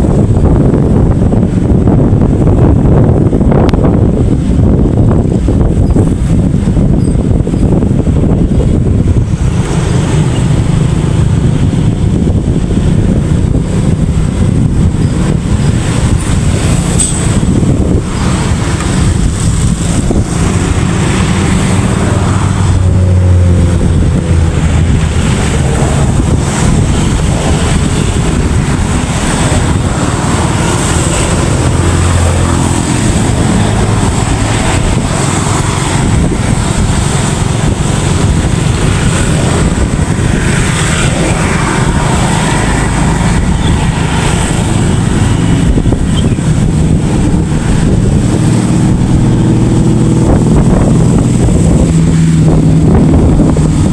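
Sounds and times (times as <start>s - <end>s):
vehicle engine and road rumble: 0.0s - 53.9s
wind on microphone: 0.0s - 53.9s.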